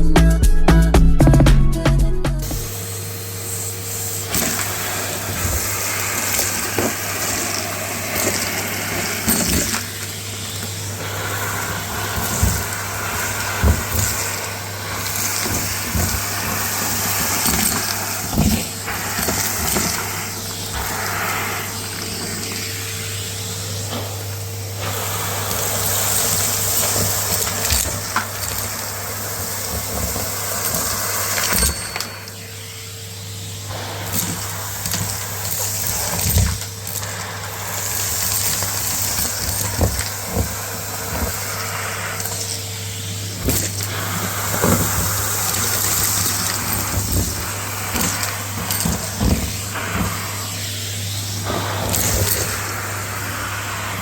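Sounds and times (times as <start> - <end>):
vacuum cleaner running: 0.0 - 54.0
grit rattling up vacuum hose: 3.5 - 31.7, 33.7 - 53.8.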